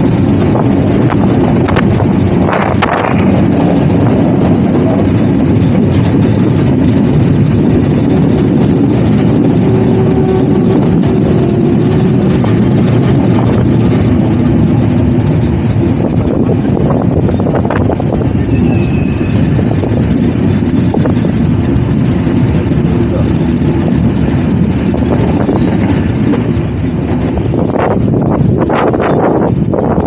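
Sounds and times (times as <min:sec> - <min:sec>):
train rumbling: 0:00.0 - 0:30.0
wind on microphone: 0:00.0 - 0:30.0.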